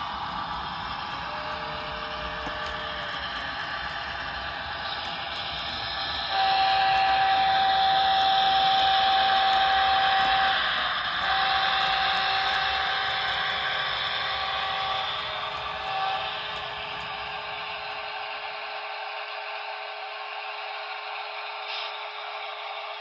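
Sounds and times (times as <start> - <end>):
long steady whistle blasts: 0.0 - 19.4.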